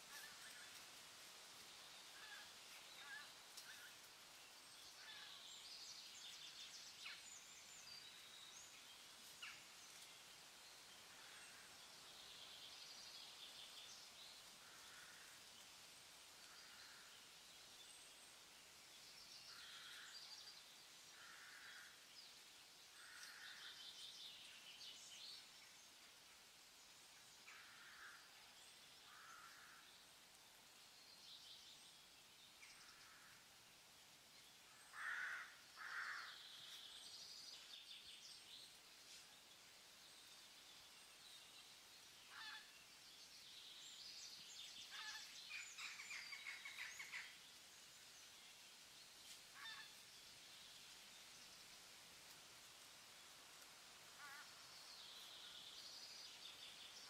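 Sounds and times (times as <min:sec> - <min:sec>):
soft outdoor air hiss: 0:00.0 - 0:57.0.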